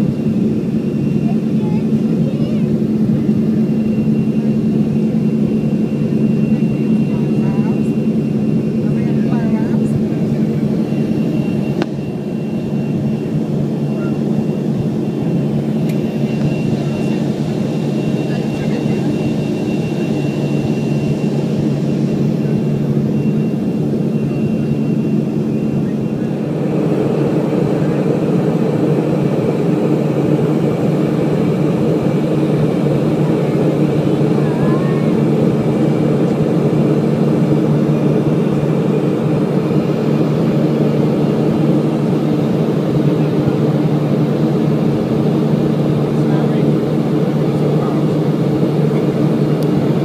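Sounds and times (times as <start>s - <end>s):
jet engine drone: 0.0s - 50.0s.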